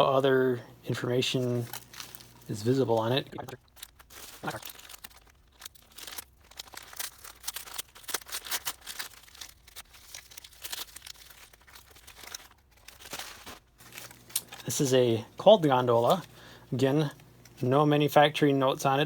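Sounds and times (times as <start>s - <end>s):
packaging crinkling and tearing: 1.2s - 17.6s.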